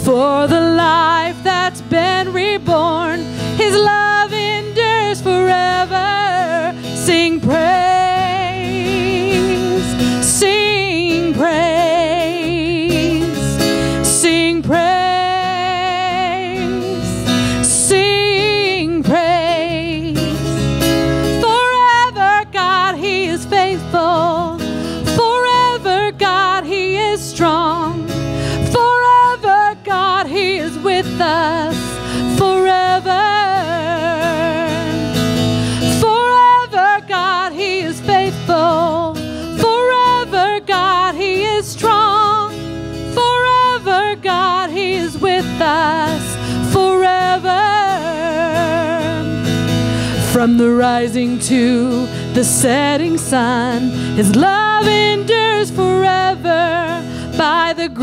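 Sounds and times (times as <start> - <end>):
acoustic guitar: 0.0 - 58.0
woman singing with vibrato: 0.0 - 58.0.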